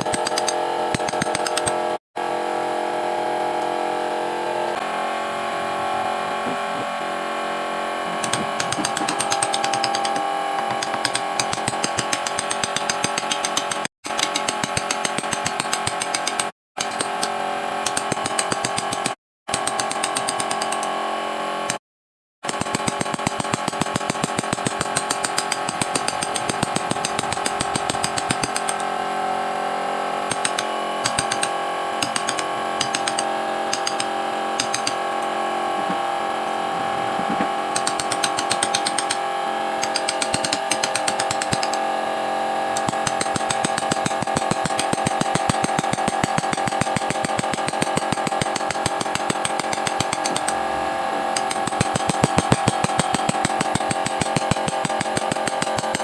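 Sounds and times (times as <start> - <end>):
power tool whining through wood: 0.0 - 21.8, 22.5 - 56.0.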